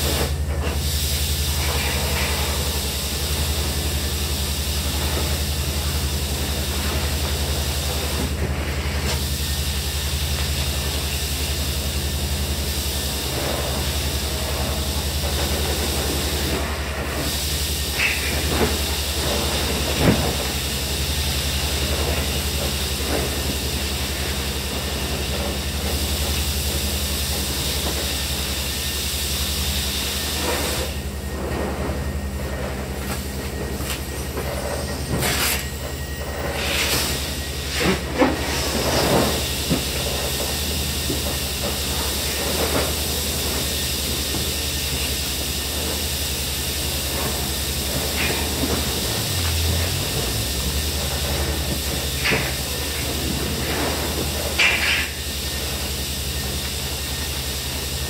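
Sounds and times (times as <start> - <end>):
vacuum hose hissing: 0.0 - 31.2, 36.5 - 58.0.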